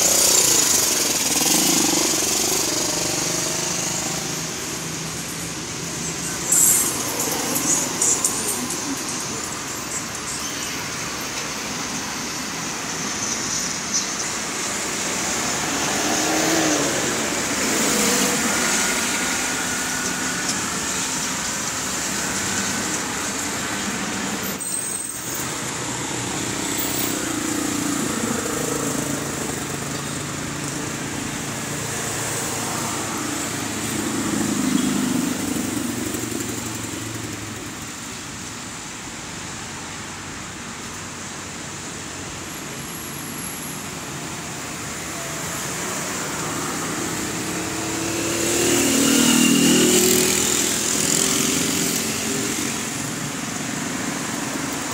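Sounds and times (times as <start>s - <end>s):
cars passing: 0.0s - 54.9s.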